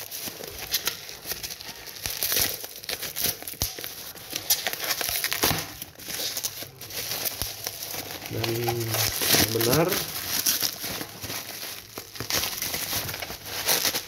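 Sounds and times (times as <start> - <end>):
plastic packaging crumpling and tearing: 0.0 - 14.0.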